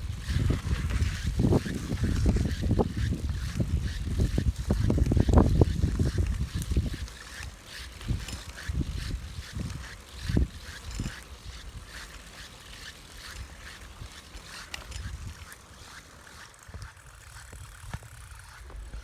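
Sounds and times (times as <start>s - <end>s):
low rumble of riding: 0.0s - 19.0s
bicycle fitting squeaking: 0.1s - 19.0s.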